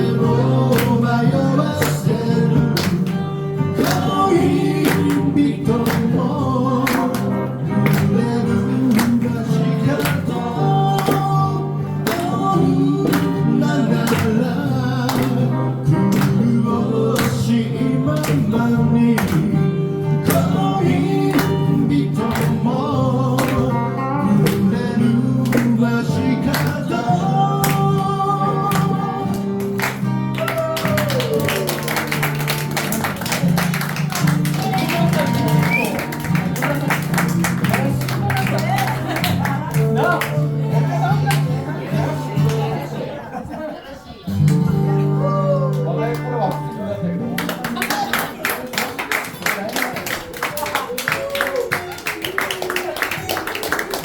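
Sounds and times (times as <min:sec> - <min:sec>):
guitar: 0:00.0 - 0:54.0.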